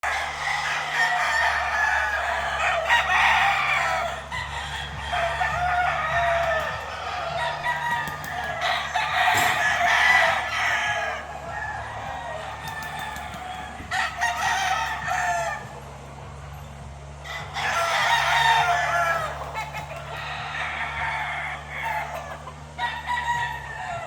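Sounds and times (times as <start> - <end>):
chickens clucking: 0.0 - 24.0
roosters crowing: 0.0 - 24.0.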